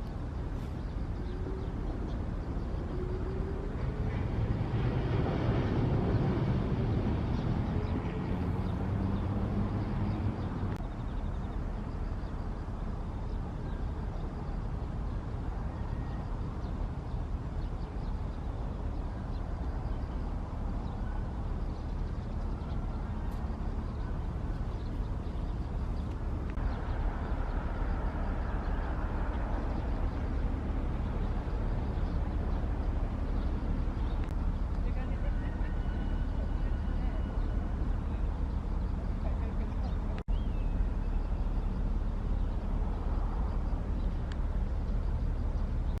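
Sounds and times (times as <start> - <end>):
low outdoor rumble: 0.0 - 46.0
pitched engine hum: 0.0 - 46.0.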